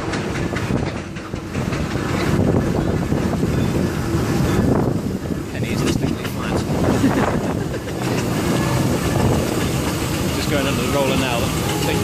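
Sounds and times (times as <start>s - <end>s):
iron rolls rolling on tarmac: 0.0s - 12.0s
steam engine working: 0.0s - 12.0s.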